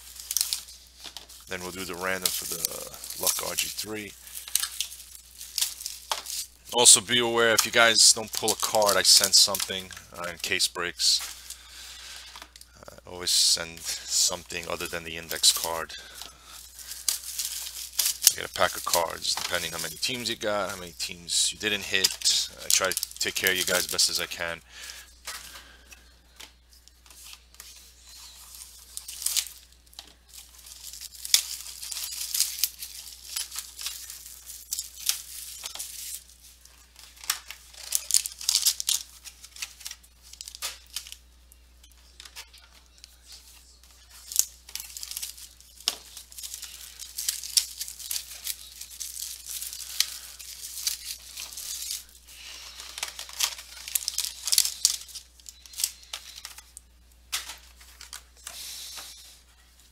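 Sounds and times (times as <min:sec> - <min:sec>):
cards and boxes handled: 0:00.0 - 0:41.3, 0:41.9 - 0:59.9
foil wrappers crinkling and tearing: 0:00.0 - 0:59.9.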